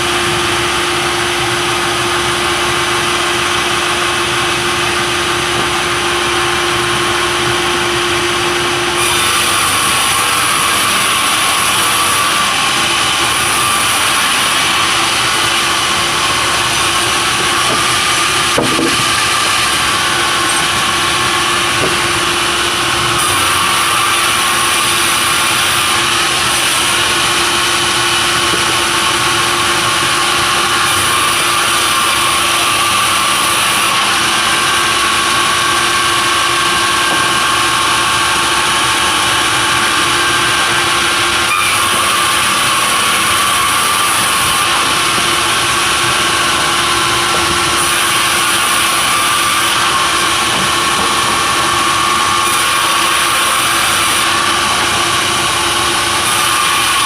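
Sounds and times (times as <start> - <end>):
saw hissing through timber: 0.0 - 57.0
sawmill saw and engine running: 0.0 - 57.0.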